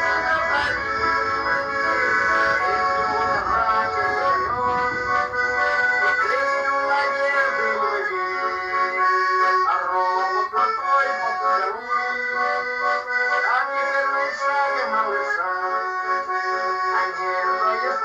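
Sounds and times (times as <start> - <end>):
instrumental music: 0.0 - 18.0.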